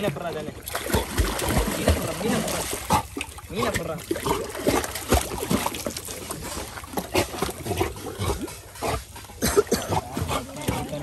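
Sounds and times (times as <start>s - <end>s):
dog splashing in water: 0.6s - 11.0s.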